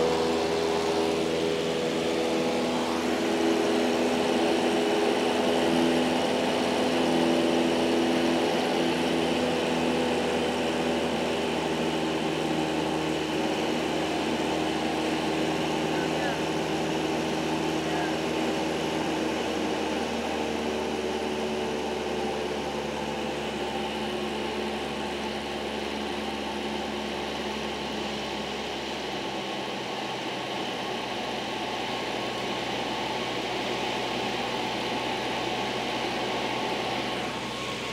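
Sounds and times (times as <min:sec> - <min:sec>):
airplane engine idling: 0:00.0 - 0:37.9.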